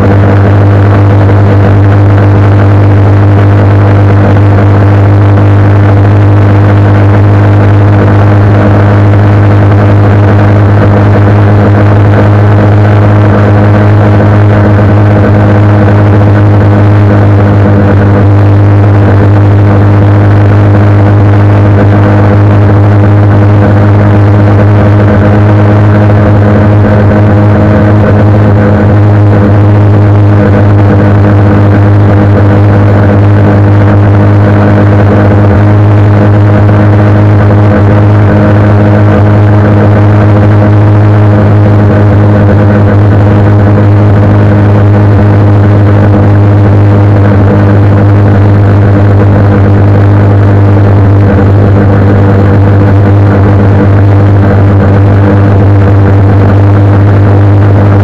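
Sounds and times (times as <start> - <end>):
motorcycle engine cruising: 0.0 - 56.5
wind on microphone: 0.0 - 58.0.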